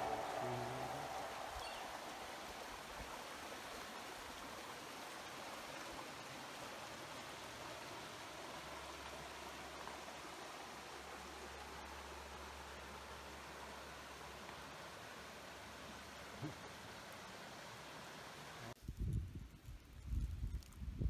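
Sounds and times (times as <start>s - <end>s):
stream flowing over rocks: 0.0s - 18.8s.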